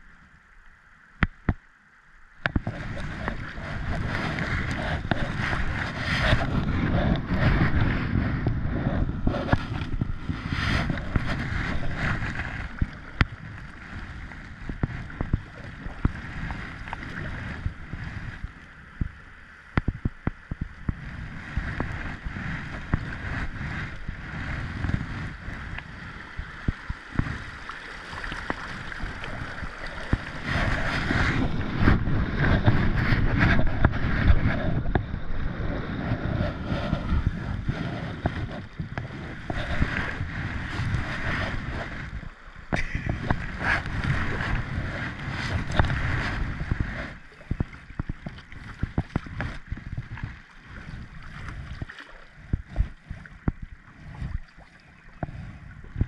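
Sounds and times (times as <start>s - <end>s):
river water rushing and splashing: 2.3s - 19.7s, 21.0s - 53.2s
paddle strokes: 2.4s - 56.0s
wind buffeting microphone: 2.4s - 56.0s.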